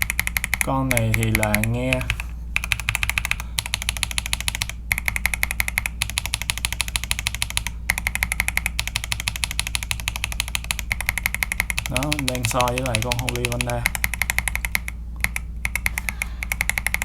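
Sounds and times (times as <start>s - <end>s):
mechanical keyboard typing: 0.0s - 17.0s.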